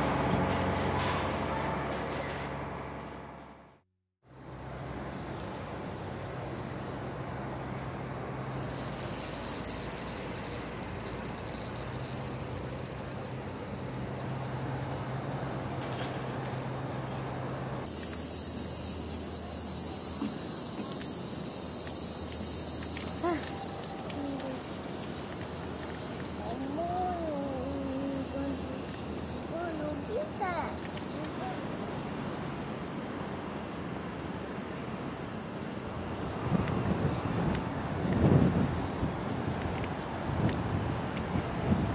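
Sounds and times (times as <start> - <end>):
cicadas singing: 4.2 - 41.9.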